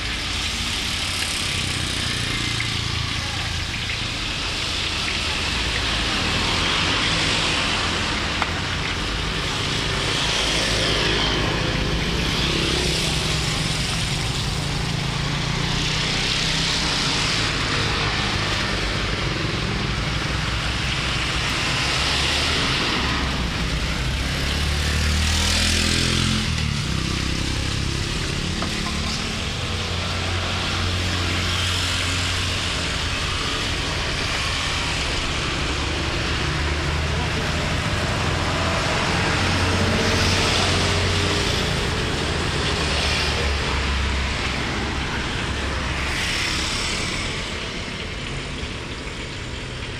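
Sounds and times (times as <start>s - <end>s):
traffic rumble: 0.0s - 49.9s.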